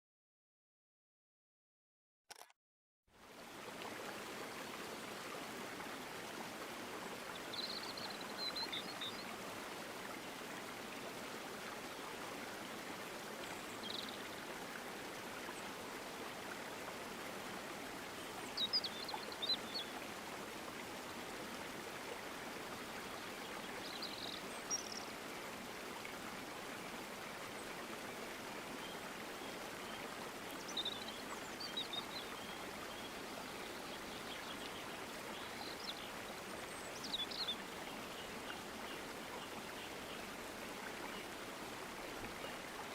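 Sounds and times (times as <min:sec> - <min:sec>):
mountain stream rushing: 0:03.2 - 0:42.9.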